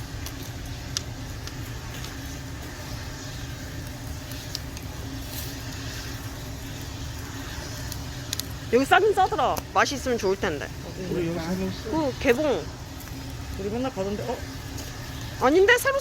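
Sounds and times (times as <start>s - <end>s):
campfire crackles: 0.0s - 16.0s
low steady rumble: 0.0s - 16.0s.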